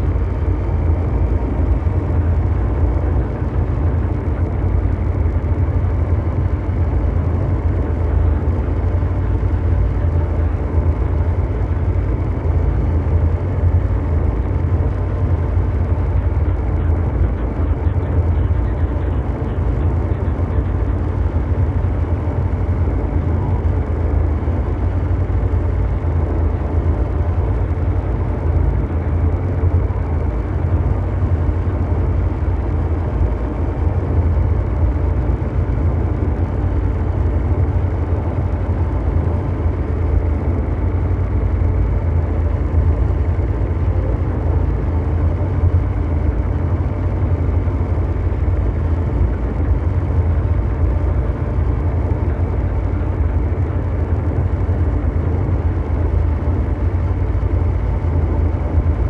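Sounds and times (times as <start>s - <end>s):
low mechanical drone: 0.0s - 59.0s.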